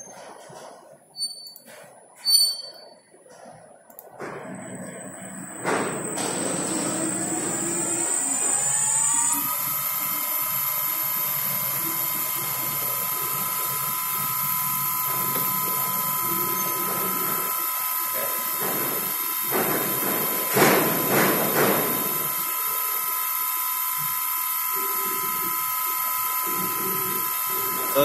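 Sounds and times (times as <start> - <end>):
spindle motor whine: 4.0 - 28.0.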